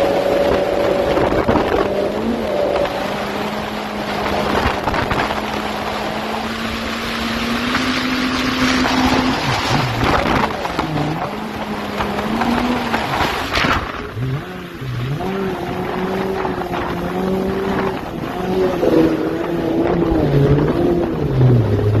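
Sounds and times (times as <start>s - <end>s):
hiss of water spray and wind: 0.0s - 22.0s
jet ski engine: 0.0s - 22.0s.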